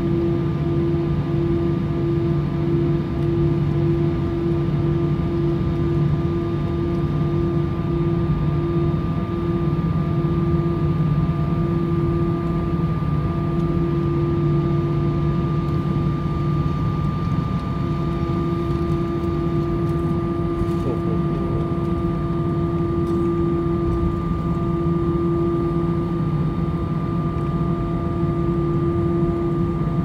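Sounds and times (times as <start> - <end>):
jet engines low rumble: 0.0 - 30.0.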